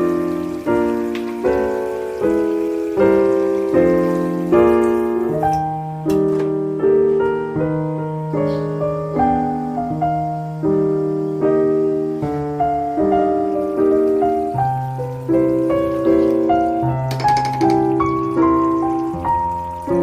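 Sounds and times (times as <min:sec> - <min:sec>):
calm piano chords: 0:00.0 - 0:20.0.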